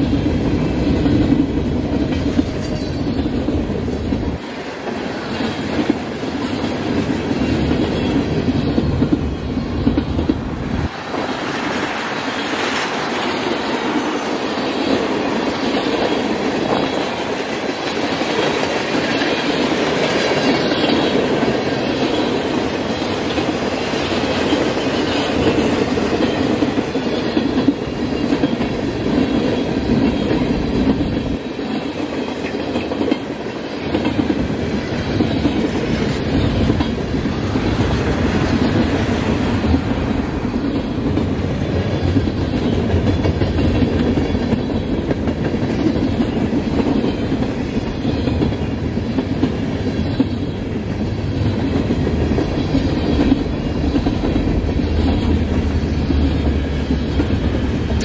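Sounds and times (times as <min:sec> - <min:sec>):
freight train cars rolling past: 0:00.0 - 0:58.0
steel wheels clacking over rail joints: 0:00.0 - 0:58.0.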